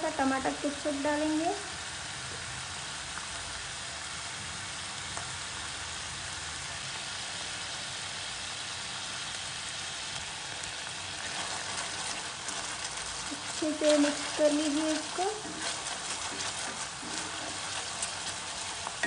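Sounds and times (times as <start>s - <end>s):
sauce sizzling in hot oil: 0.0s - 19.0s.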